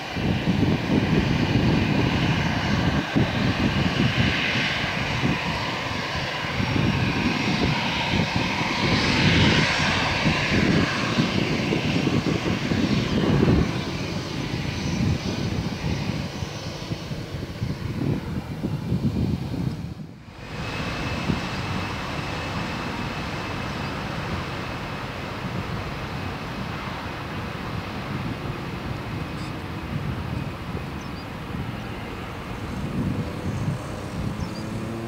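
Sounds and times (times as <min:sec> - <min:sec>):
jet engines at high power: 0:00.0 - 0:35.0.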